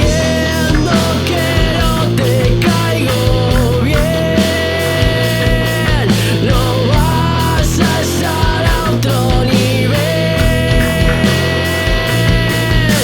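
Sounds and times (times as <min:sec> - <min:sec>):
bending lead guitar note: 0:00.0 - 0:13.0
heavy distorted rock band: 0:00.0 - 0:13.0.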